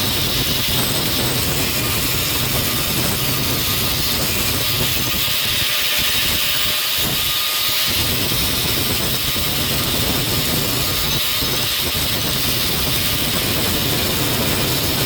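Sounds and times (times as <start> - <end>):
power tool grinding steel: 0.0 - 15.0.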